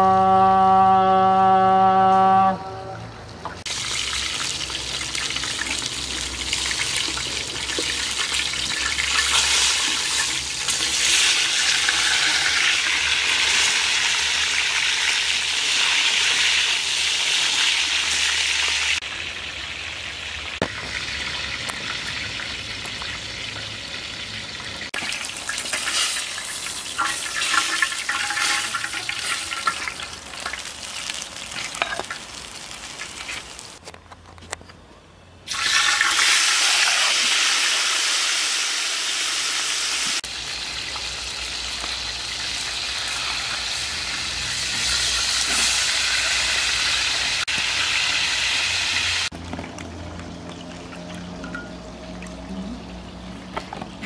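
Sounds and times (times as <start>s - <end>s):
chicken sizzling in oil: 3.7s - 33.8s, 35.5s - 49.4s.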